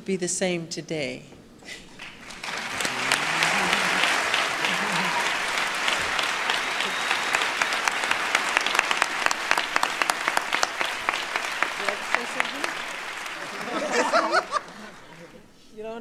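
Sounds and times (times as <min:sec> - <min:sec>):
audience applause: 0:01.9 - 0:15.4.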